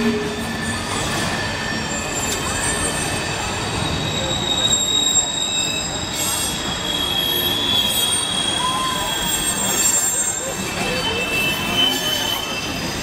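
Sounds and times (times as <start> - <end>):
freight train rumbling: 0.0 - 13.0
high-pitched wheel squeal: 0.0 - 13.0.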